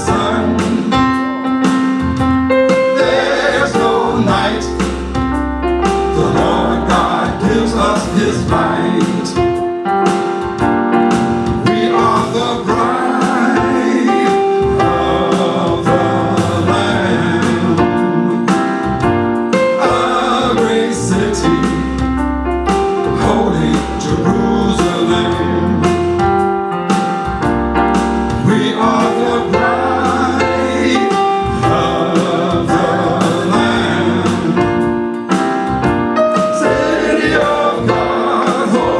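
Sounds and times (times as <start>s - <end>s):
voices singing: 0.0s - 5.2s, 5.8s - 9.6s, 11.6s - 26.2s, 28.3s - 35.0s, 36.2s - 38.9s
keyboard and bass: 0.0s - 38.9s
percussive beat: 0.0s - 38.9s.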